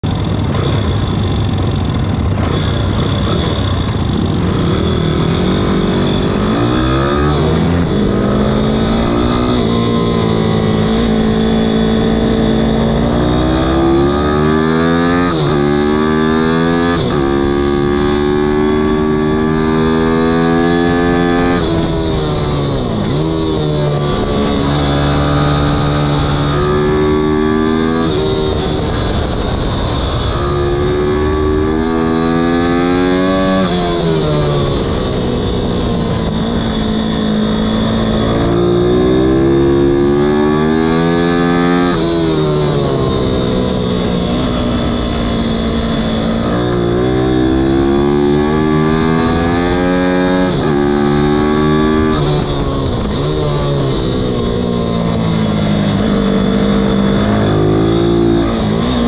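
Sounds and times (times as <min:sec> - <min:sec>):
minibike engine revving: 0:00.1 - 0:59.0.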